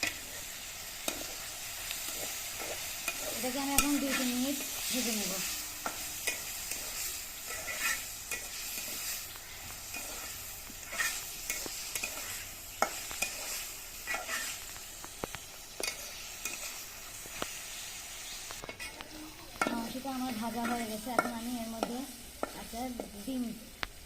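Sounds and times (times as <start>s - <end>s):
spatula scraping on pan: 0.0s - 23.2s
chicken sizzling in a frying pan: 0.0s - 24.0s.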